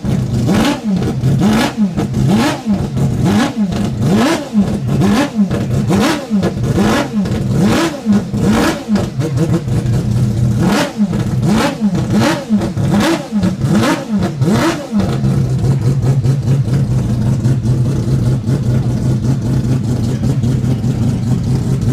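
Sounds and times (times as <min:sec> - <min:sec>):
engine idling: 0:00.0 - 0:21.9
rotary engine revving: 0:00.0 - 0:21.9.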